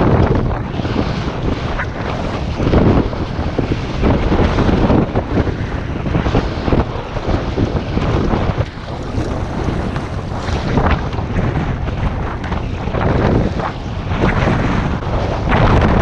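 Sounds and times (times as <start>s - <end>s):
wind blowing on microphone: 0.0s - 16.0s.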